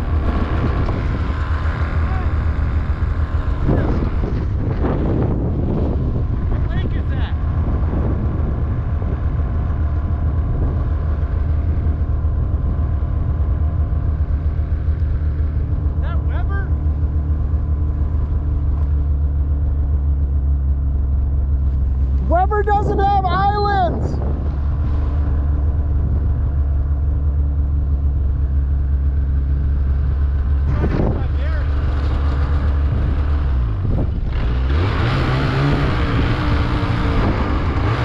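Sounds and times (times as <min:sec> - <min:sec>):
snowmobile engine running steadily: 0:00.0 - 0:38.0.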